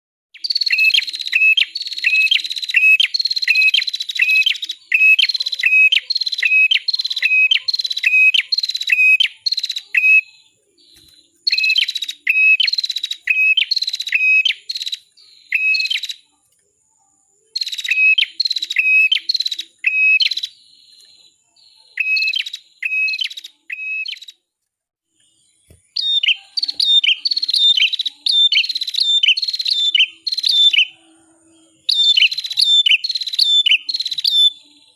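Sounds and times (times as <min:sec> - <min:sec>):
songbird chirping: 0:00.4 - 0:34.9.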